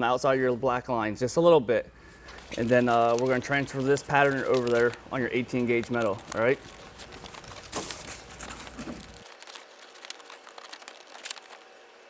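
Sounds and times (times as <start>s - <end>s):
stiff paper crinkling and rustling: 2.2s - 12.0s.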